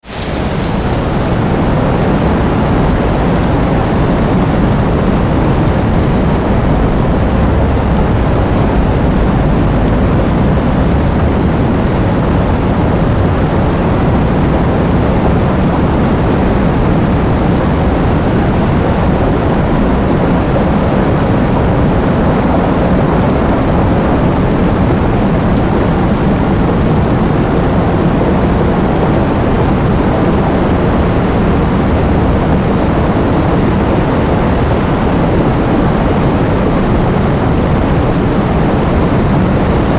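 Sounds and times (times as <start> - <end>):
heavy rain: 0.0 - 39.9
strong wind: 0.0 - 39.9.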